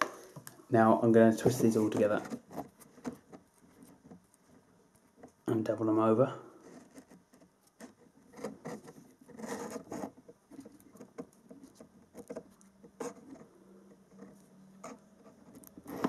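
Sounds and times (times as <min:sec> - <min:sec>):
fingers twisting wire: 0:01.6 - 0:05.5, 0:06.6 - 0:16.0.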